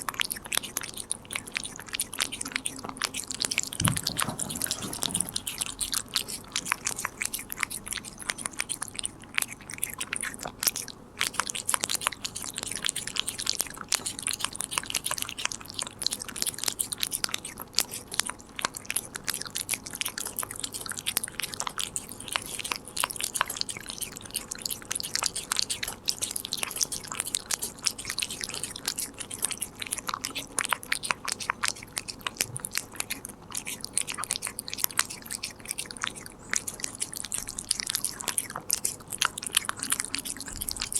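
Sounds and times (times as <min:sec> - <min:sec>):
cat chewing crunchy treat: 0:00.0 - 0:40.9.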